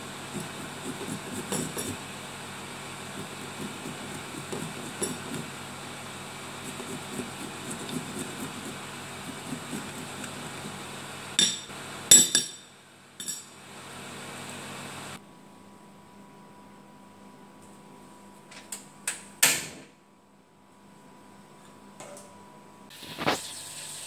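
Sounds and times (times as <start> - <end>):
steady background hum: 0.0 - 23.4.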